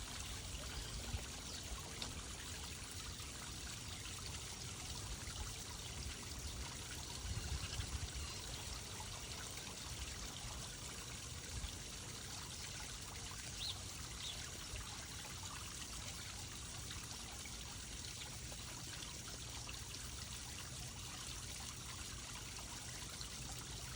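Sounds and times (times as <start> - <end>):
trickling running water: 0.0 - 23.9.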